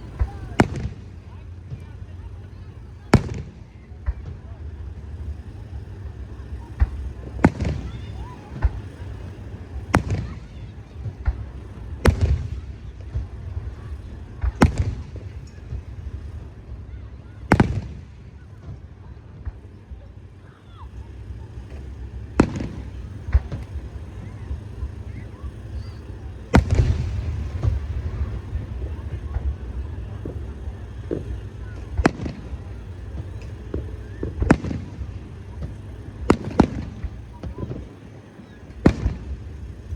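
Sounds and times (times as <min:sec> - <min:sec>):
crackling tail: 0:00.0 - 0:39.9
fireworks bursting with sharp bangs: 0:00.0 - 0:39.9
steady low rumble: 0:00.0 - 0:39.9.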